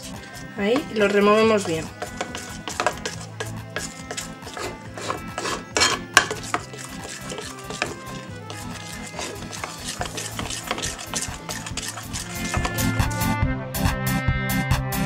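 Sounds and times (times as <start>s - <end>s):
background music: 0.0s - 15.0s
spoon clinking against bowl: 0.8s - 13.2s.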